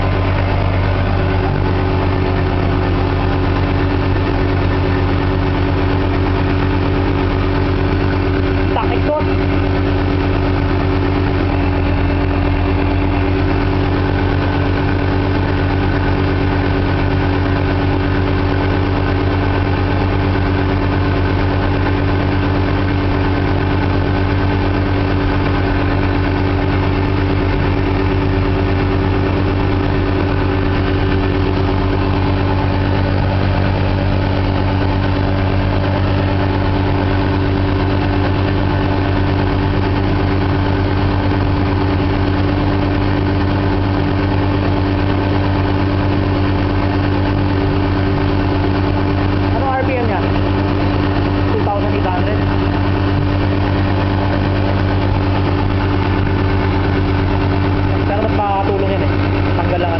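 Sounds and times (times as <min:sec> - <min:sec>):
rotary engine idling: 0:00.0 - 0:59.9.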